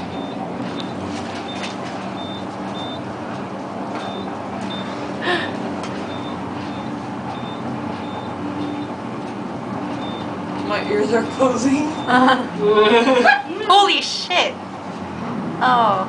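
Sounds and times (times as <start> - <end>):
elevator rushing hum: 0.0 - 16.0.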